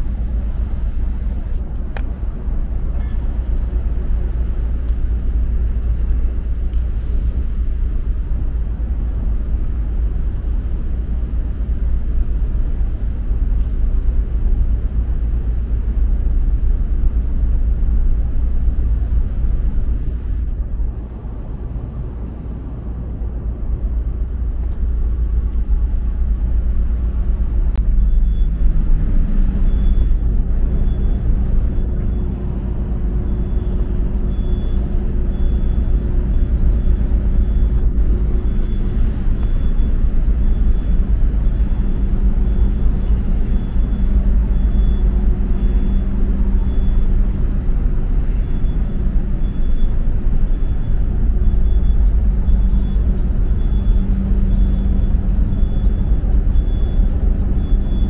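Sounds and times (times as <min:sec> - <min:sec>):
ship machinery rumble: 0:00.0 - 0:58.0.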